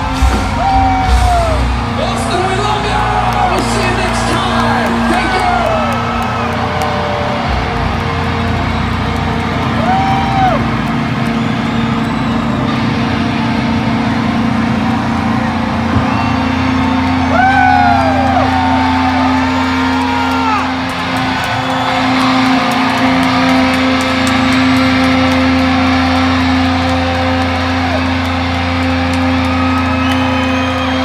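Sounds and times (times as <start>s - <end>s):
crowd voices calling out: 0.0s - 31.0s.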